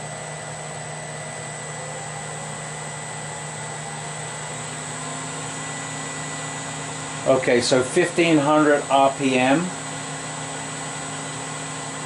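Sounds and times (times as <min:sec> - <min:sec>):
lathe motor humming and whining: 0:00.0 - 0:12.0.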